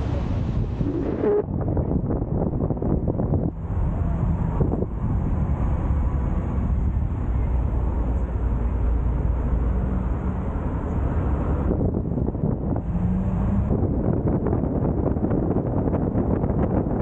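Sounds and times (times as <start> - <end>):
car engine and tyres rumbling: 0.0 - 17.0
wind noise on microphone: 0.0 - 17.0.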